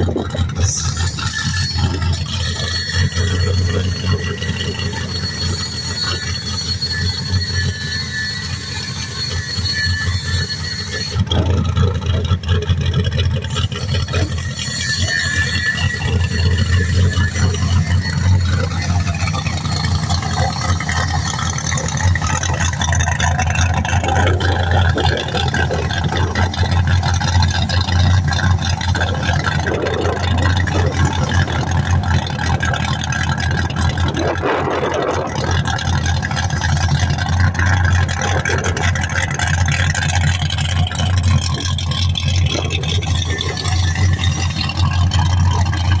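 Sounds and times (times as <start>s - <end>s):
race car engine idling: 0.0s - 46.0s.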